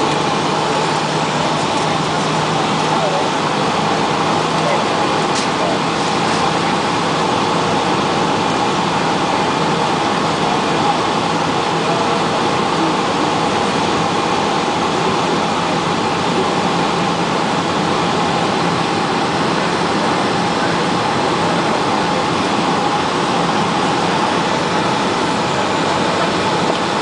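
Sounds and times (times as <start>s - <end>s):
aircraft engine and airflow roar: 0.0s - 27.0s.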